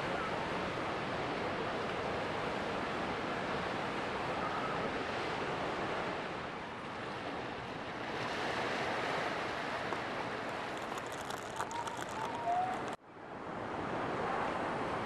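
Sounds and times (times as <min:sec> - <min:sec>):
ocean surf on shore: 0:00.0 - 0:15.0.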